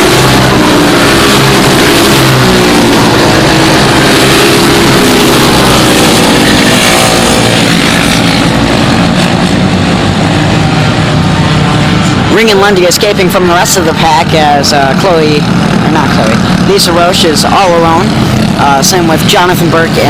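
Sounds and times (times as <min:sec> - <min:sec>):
kart engines racing at high revs: 0:00.0 - 0:20.0.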